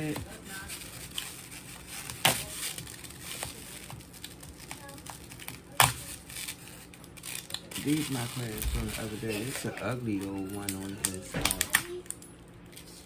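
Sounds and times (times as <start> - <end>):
small clicks and crackles: 0.1 - 9.0, 10.2 - 13.0.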